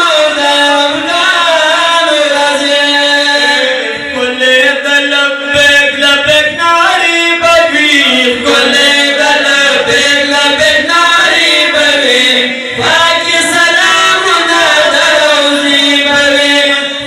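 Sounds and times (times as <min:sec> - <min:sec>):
men chanting devotional poem: 0:00.0 - 0:17.0.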